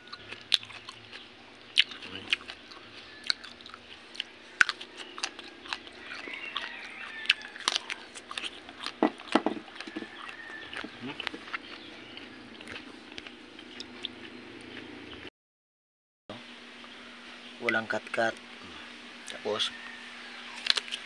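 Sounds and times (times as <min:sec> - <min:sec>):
crunchy chewing of raw vegetables: 0:00.0 - 0:15.3, 0:17.6 - 0:21.0.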